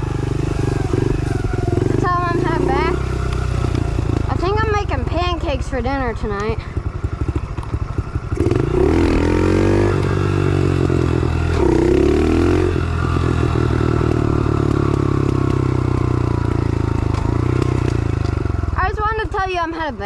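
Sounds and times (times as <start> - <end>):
pit bike engine revving: 0.0 - 19.3.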